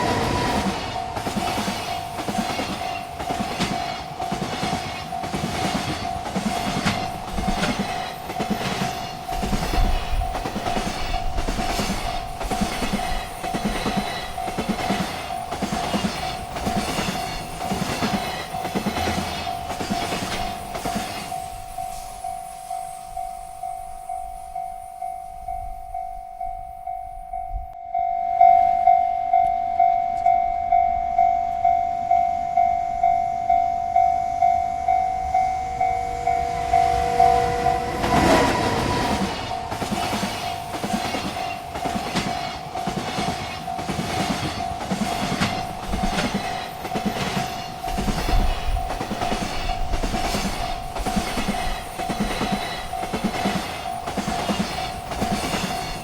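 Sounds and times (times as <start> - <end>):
train wheels clickety-clack: 0.0 - 24.9, 35.2 - 56.0
freight train rumbling past: 0.0 - 56.0
railroad crossing bell ringing: 0.0 - 56.0.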